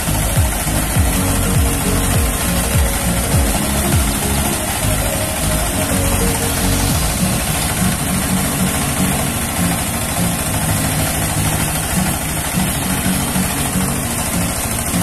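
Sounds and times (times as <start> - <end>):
rice milling machine droning: 0.0 - 15.0.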